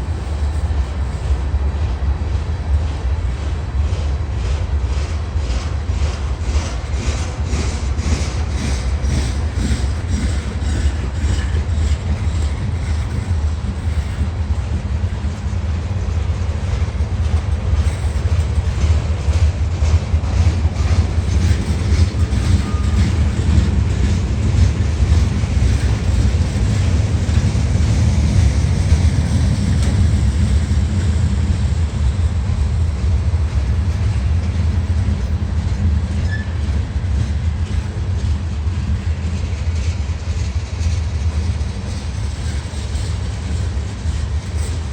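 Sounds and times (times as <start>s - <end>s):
diesel locomotive engines droning: 0.0s - 44.9s
train wheels clicking over rail joints: 0.0s - 44.9s.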